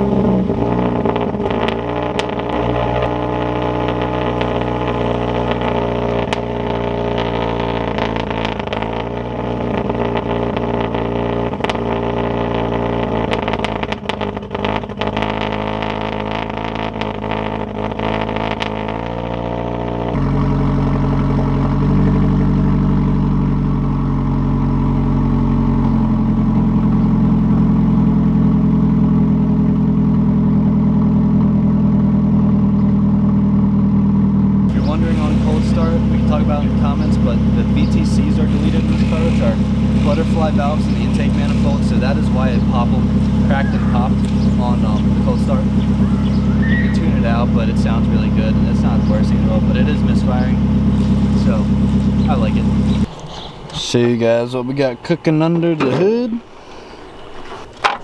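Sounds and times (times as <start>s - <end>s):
exhaust cracking and popping: 0.0s - 56.6s
car engine idling: 0.0s - 58.0s.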